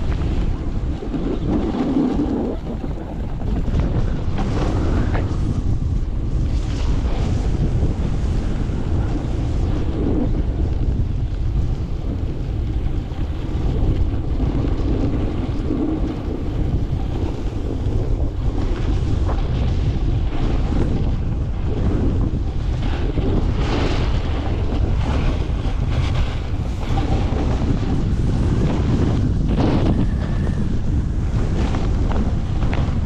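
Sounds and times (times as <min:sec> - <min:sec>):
skis carving snow: 0:00.0 - 0:33.0
wind buffeting microphone: 0:00.0 - 0:33.0.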